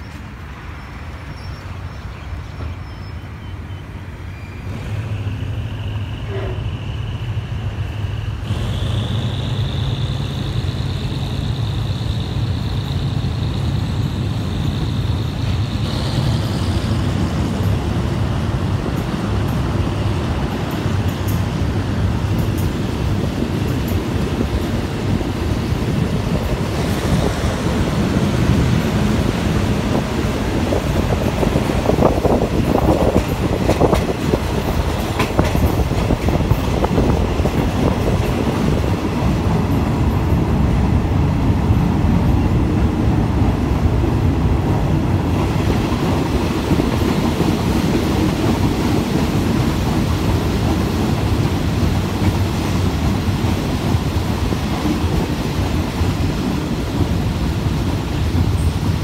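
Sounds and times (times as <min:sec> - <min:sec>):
train knocks and clatters: 0:00.0 - 0:59.0
train wheels rumbling on rails: 0:00.0 - 0:59.0.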